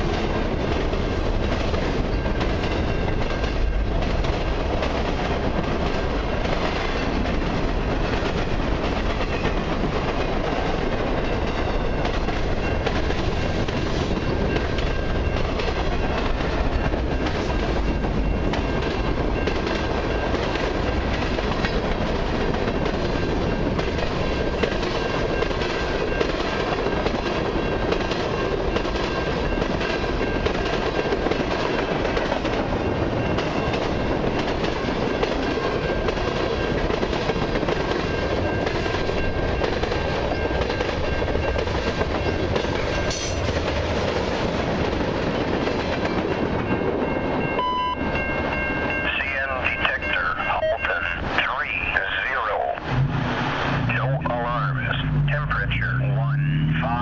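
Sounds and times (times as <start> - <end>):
freight train cars rolling past: 0.0 - 57.0.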